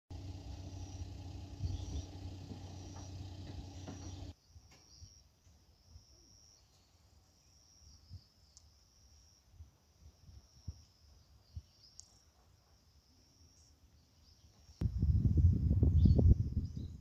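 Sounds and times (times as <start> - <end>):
insects trilling: 0.2 - 14.8.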